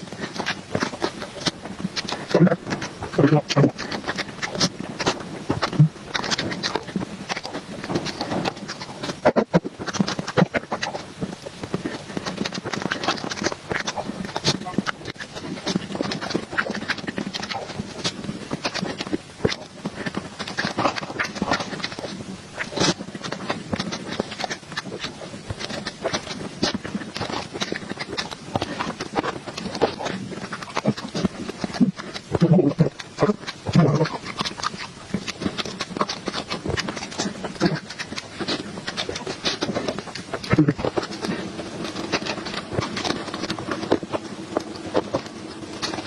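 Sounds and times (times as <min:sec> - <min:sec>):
person chewing and lip-smacking: 0:00.0 - 0:46.0.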